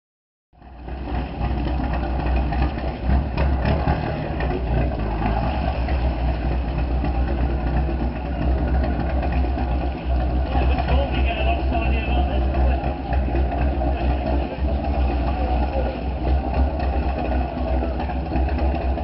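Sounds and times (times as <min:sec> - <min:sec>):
diesel engine idling: 0:00.6 - 0:19.0.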